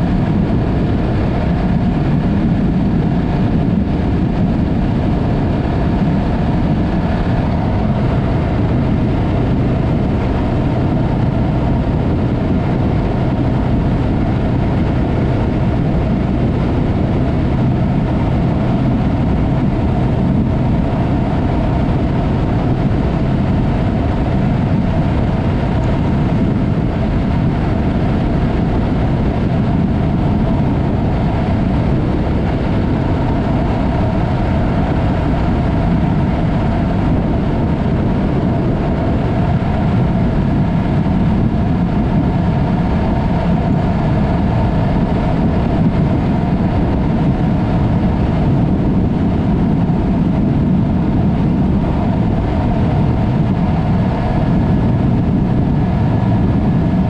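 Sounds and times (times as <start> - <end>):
motorcycle engine cruising: 0.0 - 57.0
rush of riding wind: 0.0 - 57.0.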